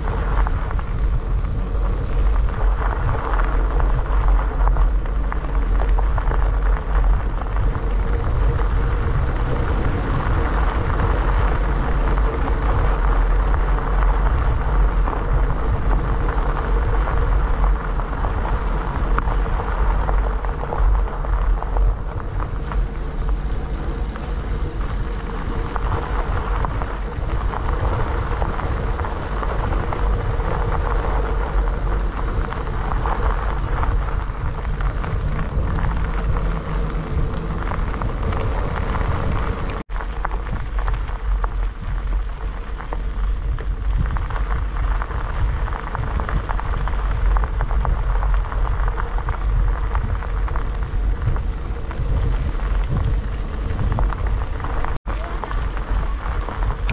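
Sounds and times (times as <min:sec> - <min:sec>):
bicycle tyres crunching on gravel: 0:00.0 - 0:56.9
wind on microphone: 0:00.0 - 0:56.9.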